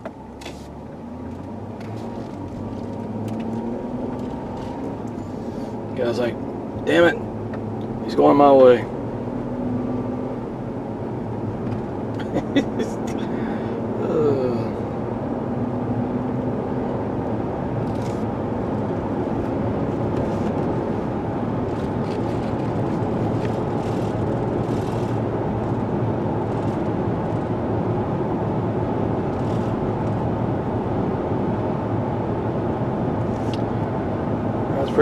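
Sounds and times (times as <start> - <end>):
car engine and tyre drone: 0.0 - 35.0.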